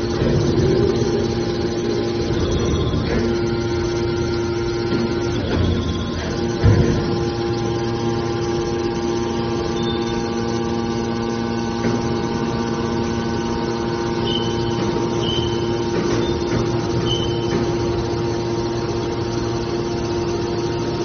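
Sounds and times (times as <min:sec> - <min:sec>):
hydraulic press motor humming: 0:00.0 - 0:21.0.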